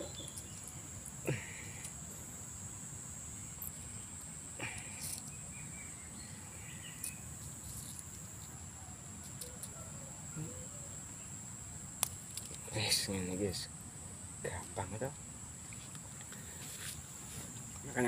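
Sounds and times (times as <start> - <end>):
high-pitched insect trill: 0.0 - 18.0
low steady background noise: 0.0 - 18.0.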